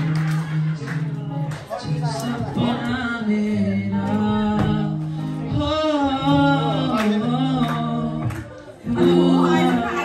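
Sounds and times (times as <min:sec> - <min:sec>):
song with sung melody: 0:00.0 - 0:10.0.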